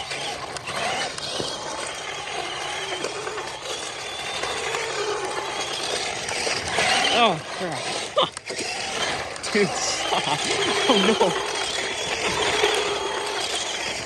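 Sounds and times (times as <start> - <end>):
toy truck motor whining: 0.0 - 14.0
wheels churning through mud: 0.0 - 14.0.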